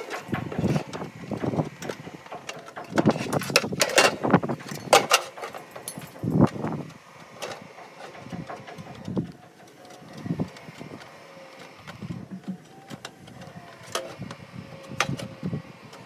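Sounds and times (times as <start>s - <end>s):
metal gutter clicking and clanking: 0.0s - 15.3s.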